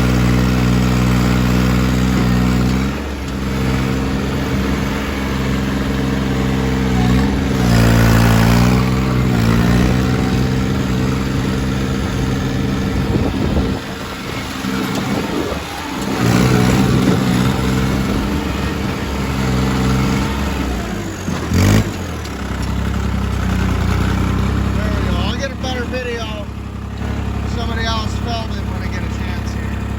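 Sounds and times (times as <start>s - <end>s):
turbocharged engine running: 0.0s - 29.9s.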